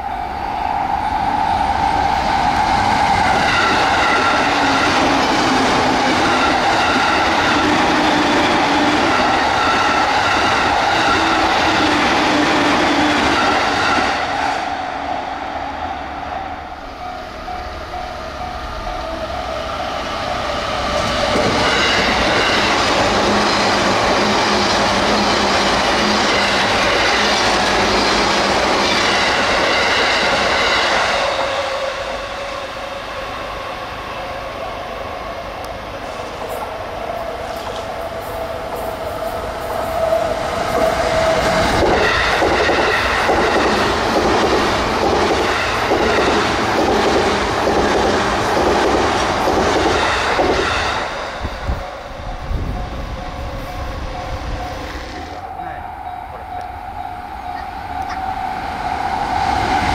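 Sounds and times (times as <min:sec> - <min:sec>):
electric train running fast: 0:00.0 - 0:59.9
train whine: 0:00.0 - 0:59.9.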